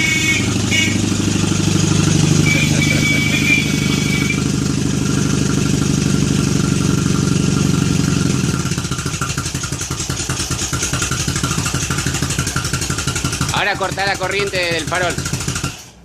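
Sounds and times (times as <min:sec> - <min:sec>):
motorcycle engine idling unevenly: 0:00.0 - 0:15.9.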